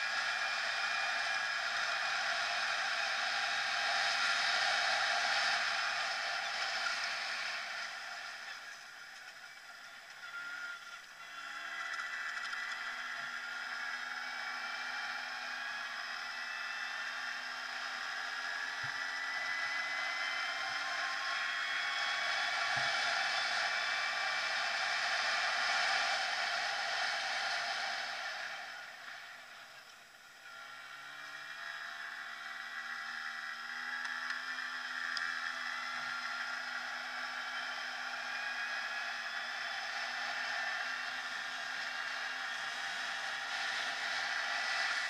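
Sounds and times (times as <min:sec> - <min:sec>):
two-stroke engine running: 0:00.0 - 0:45.0.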